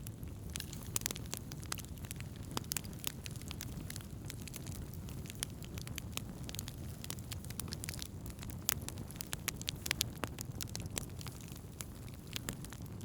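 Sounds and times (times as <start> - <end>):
burning wood crackling and popping: 0.0 - 13.0
campfire flames rumbling: 0.0 - 13.0.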